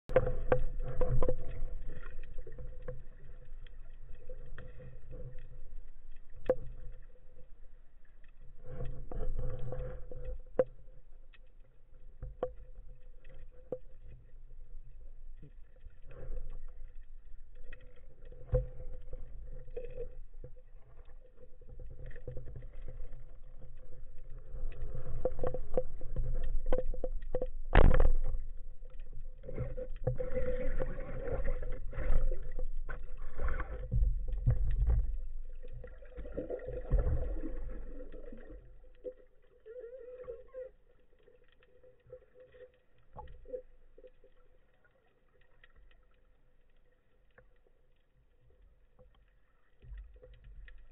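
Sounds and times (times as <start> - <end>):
muffled underwater water noise: 0.0 - 50.9.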